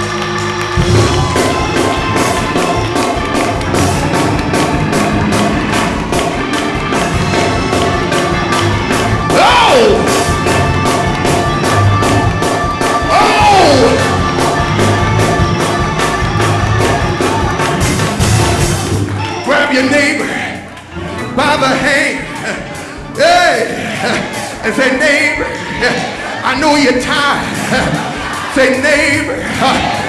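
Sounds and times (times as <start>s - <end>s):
band playing gospel music: 0.0s - 30.0s.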